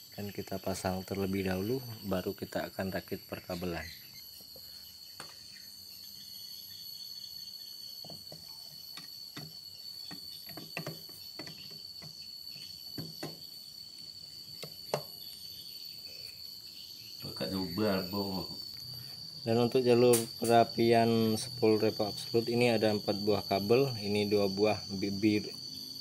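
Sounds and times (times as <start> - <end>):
steady high-pitched whine: 0.0 - 26.0.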